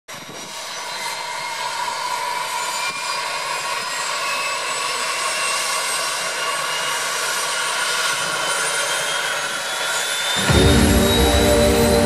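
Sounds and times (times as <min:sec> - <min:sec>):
turboprop engine whining: 0:00.1 - 0:12.0.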